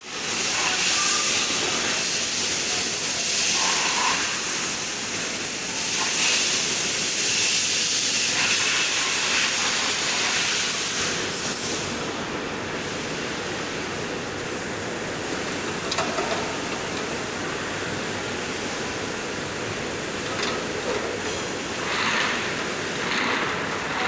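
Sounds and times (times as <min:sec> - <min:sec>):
machine running with loud hiss: 0:00.0 - 0:24.0.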